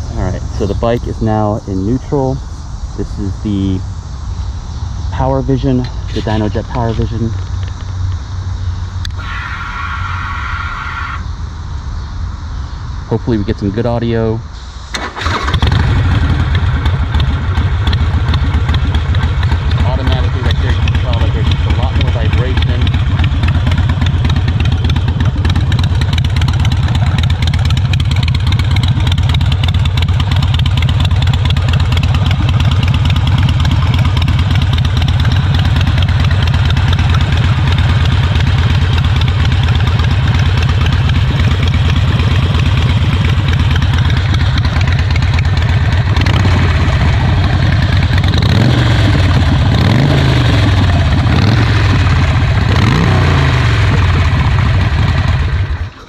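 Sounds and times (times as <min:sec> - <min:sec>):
motorcycle engine idling and revving: 0:00.0 - 0:09.2, 0:15.2 - 0:56.0.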